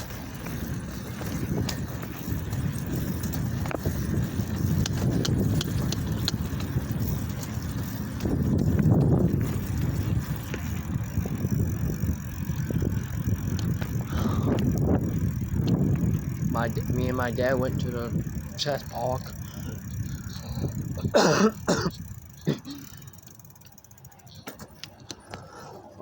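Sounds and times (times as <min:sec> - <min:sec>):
bicycle clicks and rattles: 0:00.0 - 0:26.0
bicycle riding rumble: 0:00.0 - 0:26.0.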